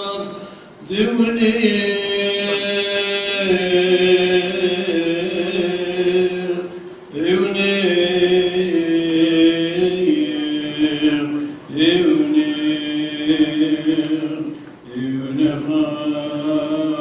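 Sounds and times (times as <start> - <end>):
person chanting: 0.0 - 17.0.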